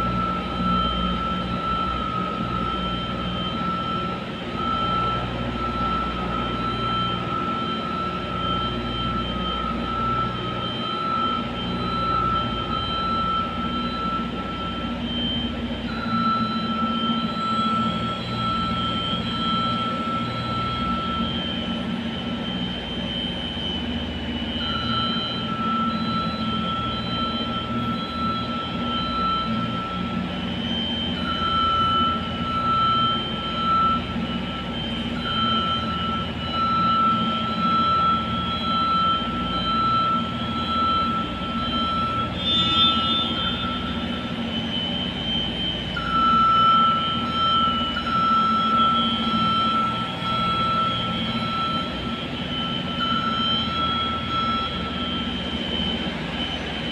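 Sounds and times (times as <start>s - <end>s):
heavy machinery drone: 0.0s - 56.9s
high whine: 0.0s - 56.9s.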